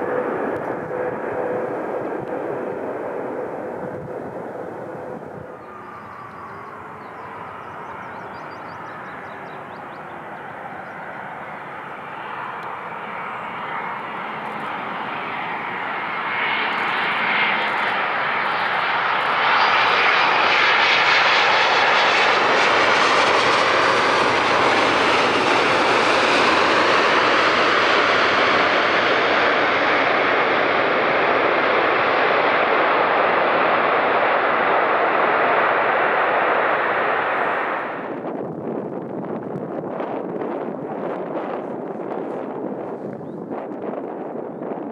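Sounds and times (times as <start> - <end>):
jet engines on landing: 0.0 - 44.9.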